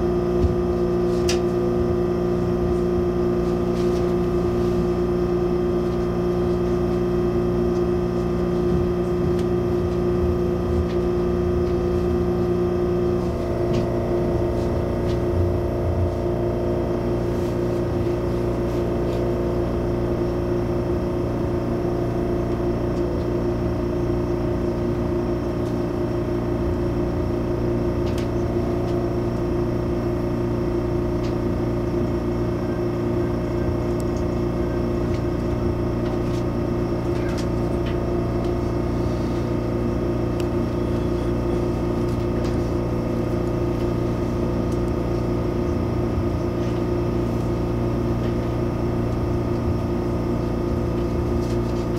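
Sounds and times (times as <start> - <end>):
train ventilation hum: 0.0 - 51.9.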